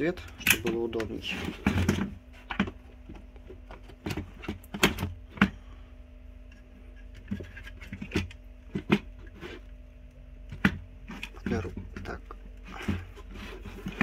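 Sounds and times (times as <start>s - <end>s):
steady low hum: 0.0s - 14.0s
aquarium equipment knocking and clattering: 0.4s - 5.6s, 7.0s - 9.6s, 10.5s - 14.0s.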